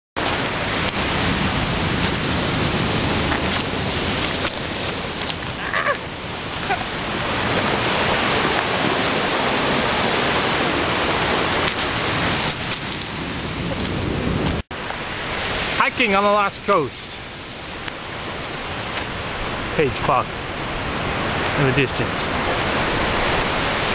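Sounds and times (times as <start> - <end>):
surf breaking on cobble beach: 0.2 - 23.9.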